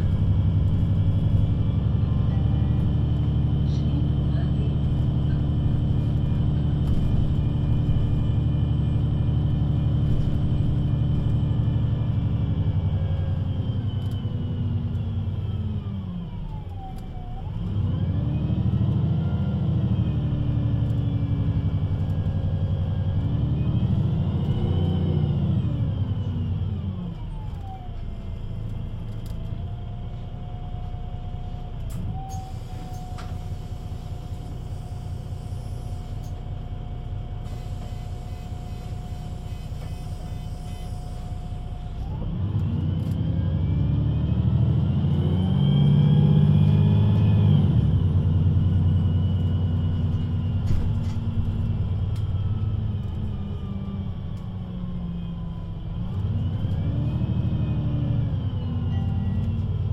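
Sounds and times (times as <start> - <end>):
bus engine and gearbox whine: 0.0 - 59.9.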